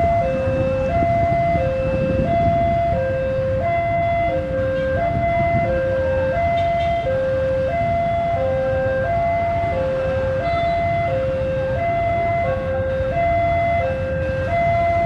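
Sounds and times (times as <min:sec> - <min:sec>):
diesel locomotive rumble: 0:00.0 - 0:15.0
two-tone warning alarm: 0:00.0 - 0:15.0.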